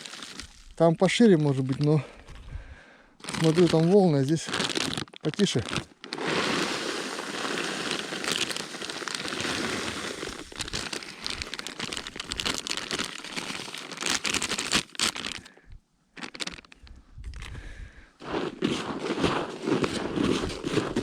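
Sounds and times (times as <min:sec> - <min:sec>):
crinkling and rustling: 0:00.0 - 0:02.5, 0:03.2 - 0:15.6, 0:16.2 - 0:17.6, 0:18.2 - 0:21.0.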